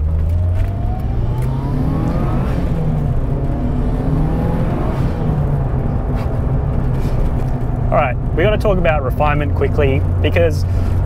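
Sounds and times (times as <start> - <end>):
low engine drone: 0.0 - 11.0
rising engine whine: 0.0 - 11.0.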